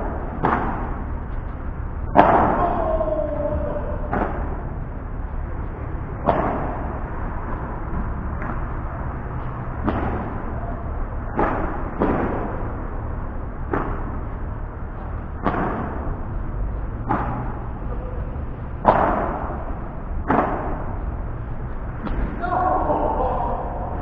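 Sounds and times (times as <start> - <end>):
racket hitting ball: 0.0 - 1.3, 2.1 - 4.7, 6.2 - 18.0, 18.8 - 22.5
ball bouncing: 0.0 - 12.8, 13.6 - 22.5
steady low rumble: 0.0 - 24.0.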